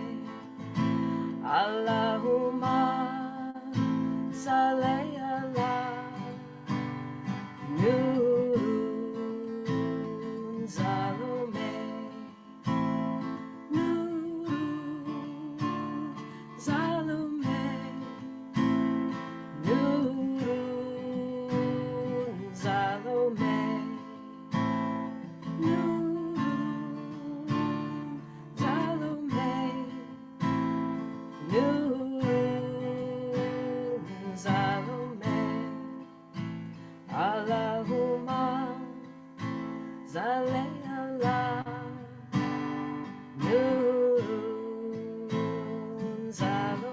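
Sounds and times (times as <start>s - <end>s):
acoustic guitar strumming: 0.0s - 46.9s.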